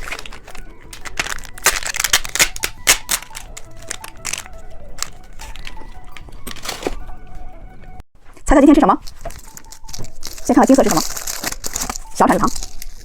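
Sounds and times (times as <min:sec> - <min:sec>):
plastic wrapper crinkling: 0:00.0 - 0:07.1, 0:09.0 - 0:13.0.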